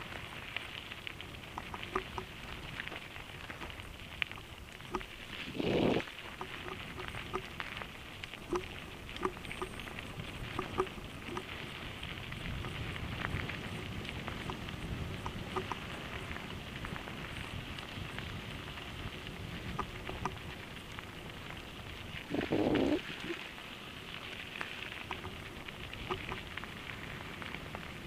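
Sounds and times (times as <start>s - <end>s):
bike clicking and rattling: 0.0s - 22.2s, 22.9s - 28.0s
bike tyres crunching on gravel: 0.0s - 28.0s.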